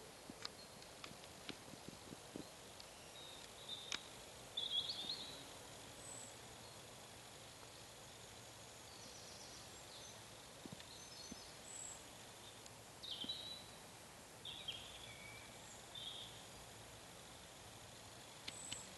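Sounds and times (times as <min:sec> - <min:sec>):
faint birdsong chirps: 0:00.0 - 0:18.9
steady outdoor hiss: 0:00.0 - 0:18.9.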